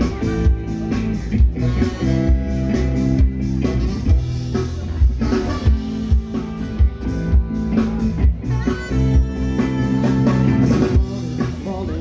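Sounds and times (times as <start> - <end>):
drum kit steady beat: 0.0 - 12.0
guitar: 0.0 - 12.0.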